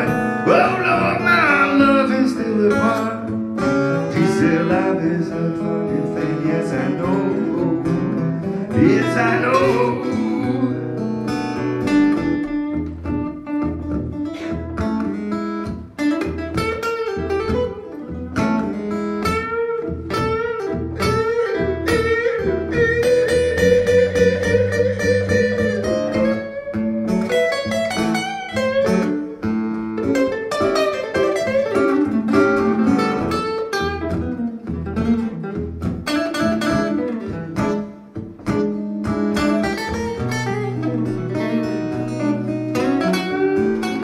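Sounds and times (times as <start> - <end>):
acoustic guitars playing blues: 0.0 - 44.0
lead guitar picking single notes: 0.0 - 44.0.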